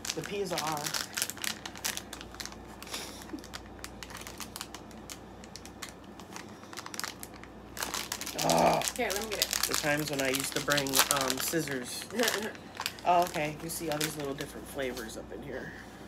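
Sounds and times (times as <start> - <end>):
snack bag crinkling: 0.0 - 15.2.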